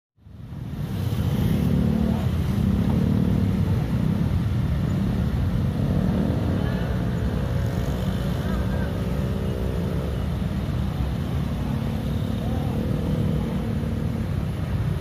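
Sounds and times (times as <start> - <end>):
motorcycle and scooter traffic: 0.2 - 15.0.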